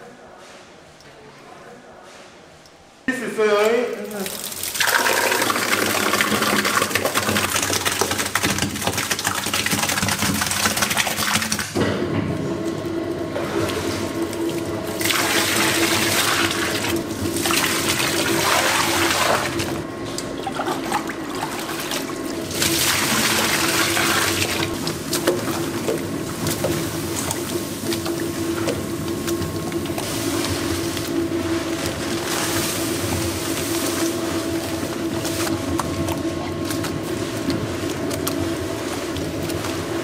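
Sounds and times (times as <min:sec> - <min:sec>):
mixer hum: 0:03.8 - 0:40.0
slurry pouring and sloshing: 0:04.0 - 0:11.8, 0:12.4 - 0:40.0.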